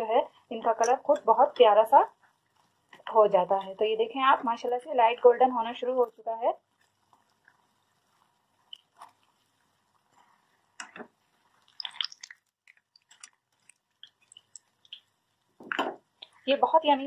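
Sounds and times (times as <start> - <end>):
hot oil crackling and popping: 0.0 - 17.0.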